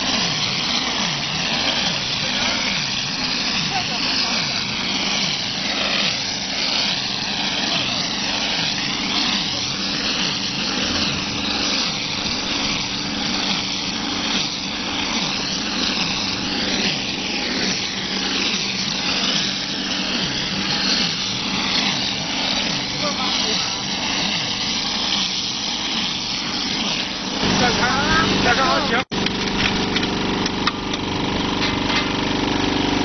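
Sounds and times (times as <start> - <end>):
mortar spraying with air rush: 0.0 - 33.0.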